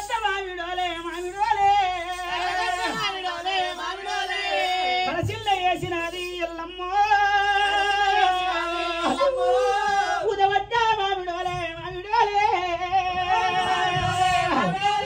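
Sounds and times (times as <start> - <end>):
person singing through loudspeakers: 0.0 - 15.0.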